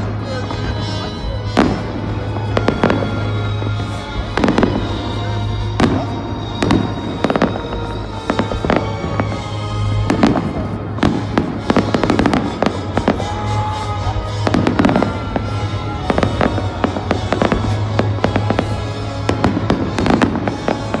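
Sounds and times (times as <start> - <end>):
fireworks bursting and crackling: 0.0 - 21.0
music playing: 0.0 - 21.0.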